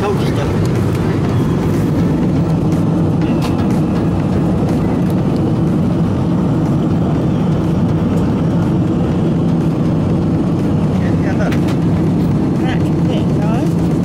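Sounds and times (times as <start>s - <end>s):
jet airliner cabin rumble: 0.0s - 14.0s.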